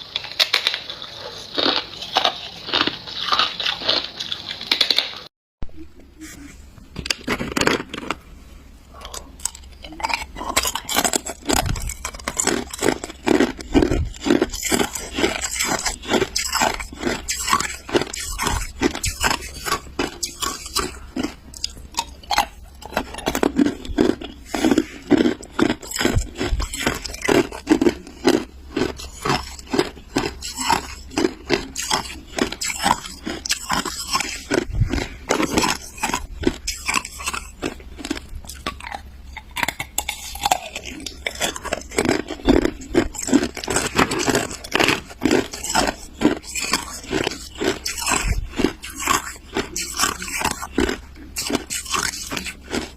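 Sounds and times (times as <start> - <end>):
ice being chewed: 0.0 - 5.2, 7.0 - 8.2, 8.9 - 52.9.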